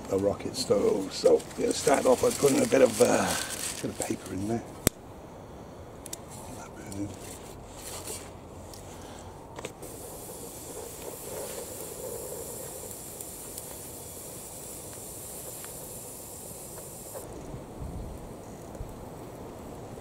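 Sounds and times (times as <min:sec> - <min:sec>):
fire crackles: 0:00.0 - 0:20.0
fire hissing: 0:00.0 - 0:20.0.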